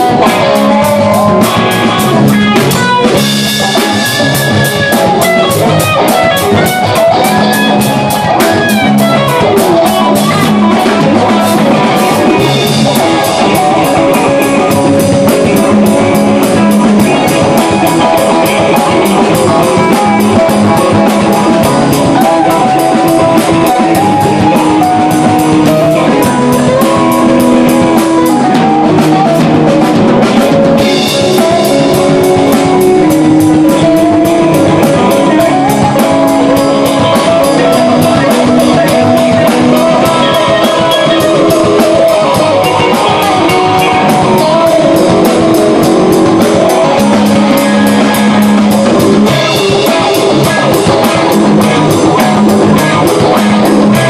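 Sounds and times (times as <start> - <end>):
drum kit beat: 0.0 - 54.0
electric guitars: 0.0 - 54.0
electric keyboard: 0.0 - 54.0.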